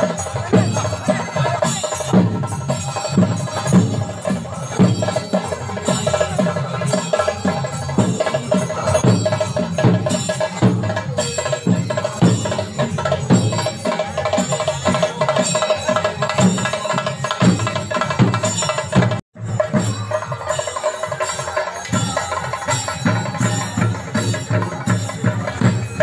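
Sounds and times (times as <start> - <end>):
drums beaten in fast rhythm: 0.0 - 26.0
ringing metallic percussion: 0.0 - 26.0.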